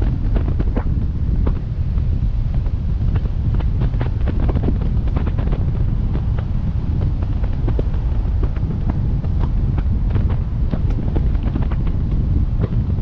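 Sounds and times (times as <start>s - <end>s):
raindrops tapping camera: 0.0s - 13.0s
wind buffeting microphone: 0.0s - 13.0s.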